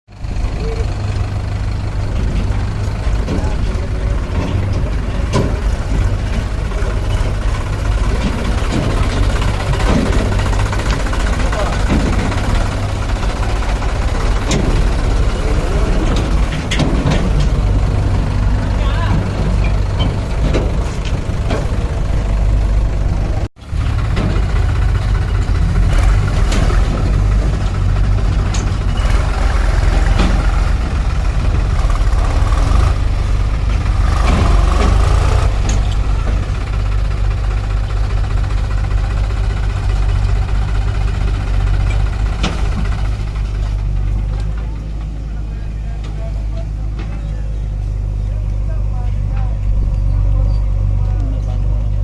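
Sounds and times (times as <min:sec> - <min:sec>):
tractor engine running: 0:00.1 - 0:52.0.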